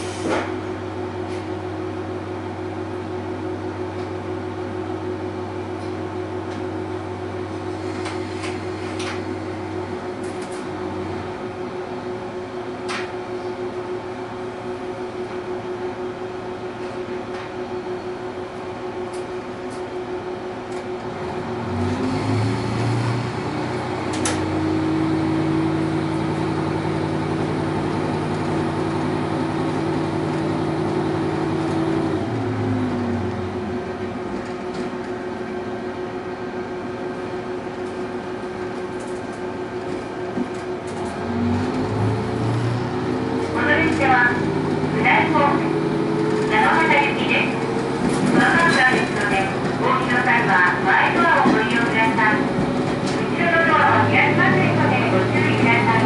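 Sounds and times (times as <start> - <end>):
diesel railcar engine: 0.0 - 56.0.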